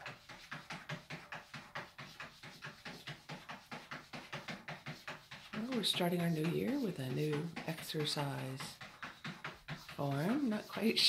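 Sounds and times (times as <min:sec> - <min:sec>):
cat paws scrabbling on bathtub: 0:00.0 - 0:11.0.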